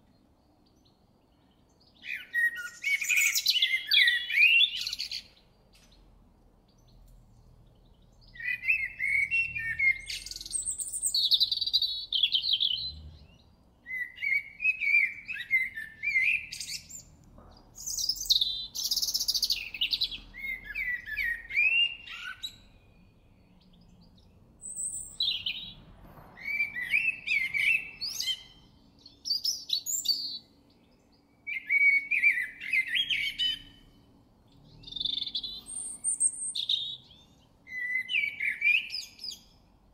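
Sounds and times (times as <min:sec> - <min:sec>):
blackbird singing: 0:00.0 - 0:39.8.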